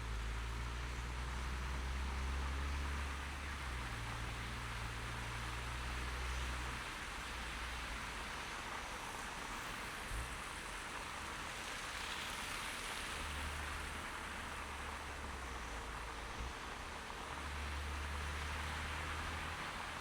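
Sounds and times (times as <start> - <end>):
tyres hissing on wet road: 0.0 - 20.0.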